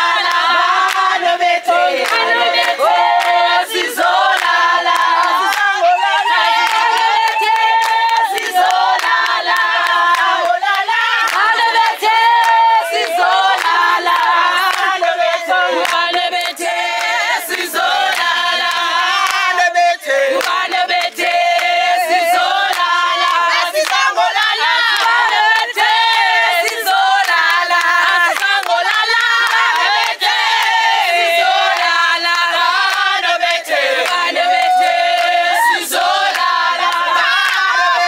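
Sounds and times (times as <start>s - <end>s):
crowd singing and shouting: 0.0s - 38.0s
sharp claps: 0.0s - 38.0s.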